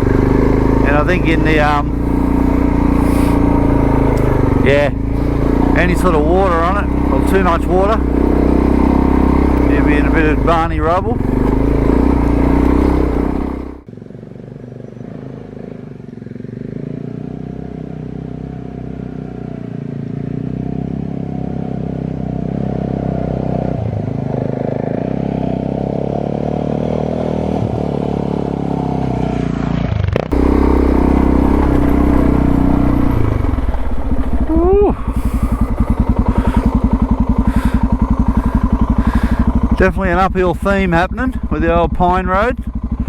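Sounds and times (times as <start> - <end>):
motorcycle engine climbing: 0.0 - 43.0.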